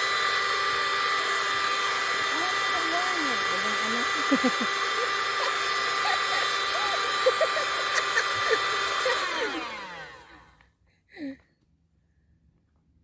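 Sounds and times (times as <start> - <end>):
small electric motor whining: 0.0 - 10.7.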